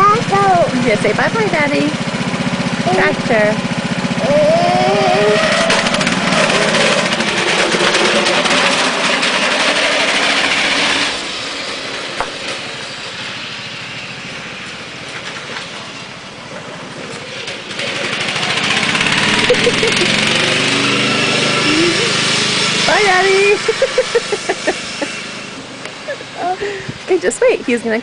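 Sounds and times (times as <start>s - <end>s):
riding lawn mower engine: 0.0s - 28.0s.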